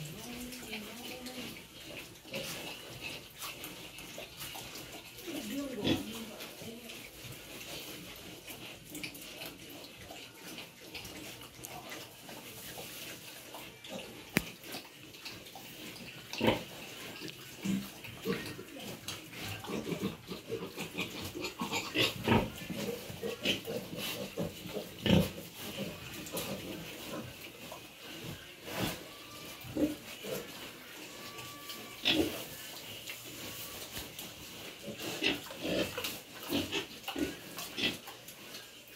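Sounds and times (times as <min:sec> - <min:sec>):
pigs grunting: 0:00.0 - 0:12.2, 0:12.8 - 0:32.6, 0:34.6 - 0:38.9.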